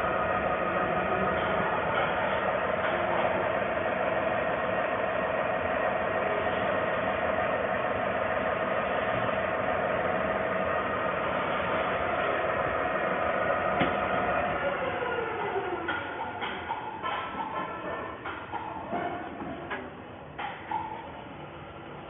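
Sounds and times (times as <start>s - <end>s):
machine humming and whining: 0.0s - 22.0s.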